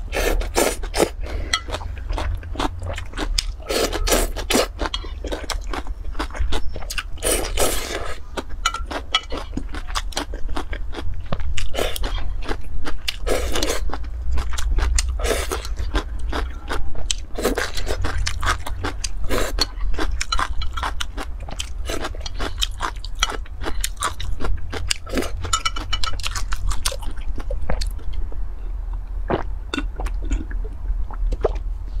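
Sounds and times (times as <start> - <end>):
chewing crunchy food: 0.2 - 28.3.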